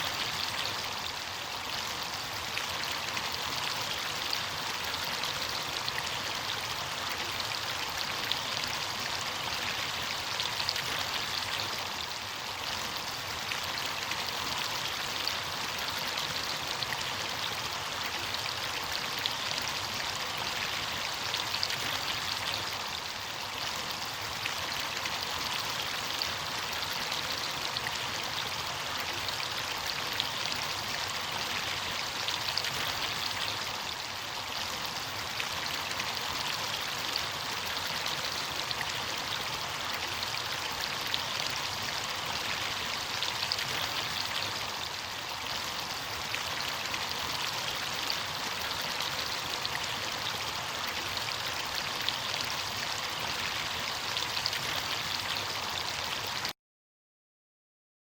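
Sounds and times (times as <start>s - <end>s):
stream water rushing and splashing: 0.0s - 56.5s.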